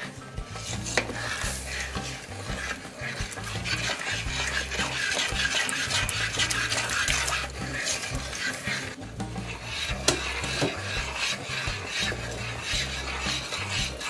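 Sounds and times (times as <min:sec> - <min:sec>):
spoon scraping a pan: 0:00.0 - 0:14.0.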